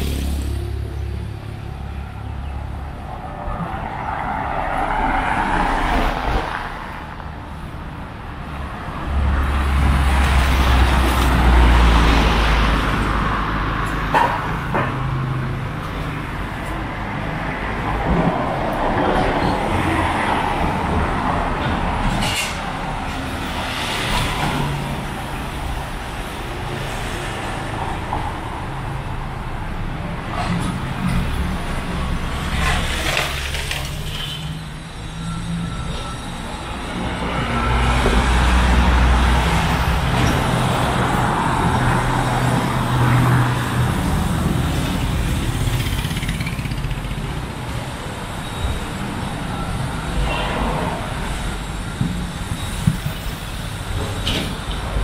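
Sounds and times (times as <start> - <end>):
heavy low rumble of vehicle: 0.0 - 55.0
vehicles passing: 0.0 - 55.0.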